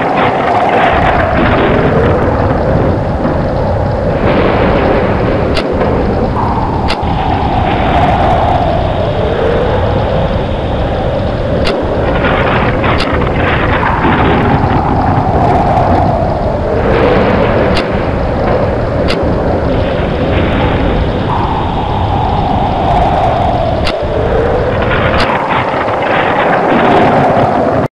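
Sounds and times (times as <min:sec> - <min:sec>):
sharp ticks: 0:00.0 - 0:26.6
heavy low rumble: 0:00.0 - 0:27.9
storm wind howling: 0:00.0 - 0:27.9
whistling wind gusts: 0:00.0 - 0:27.9.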